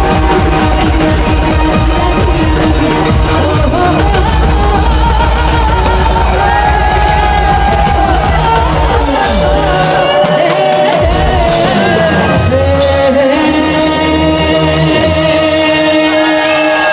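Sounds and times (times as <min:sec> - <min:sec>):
instrumental backing with bass: 0:00.0 - 0:16.9
person singing folk song: 0:00.0 - 0:16.9.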